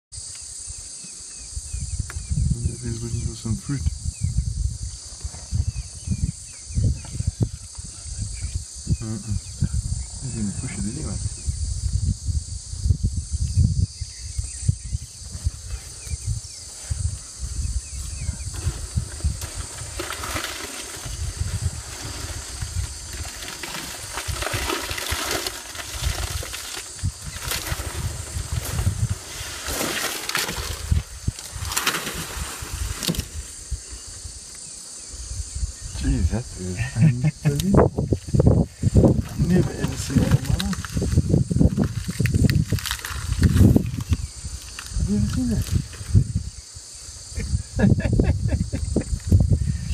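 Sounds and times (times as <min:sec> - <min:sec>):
high insect hum: 0:00.1 - 0:49.9
elephant low rumbles: 0:00.9 - 0:49.9
branches and leaves rustling: 0:03.6 - 0:36.1, 0:37.2 - 0:49.9.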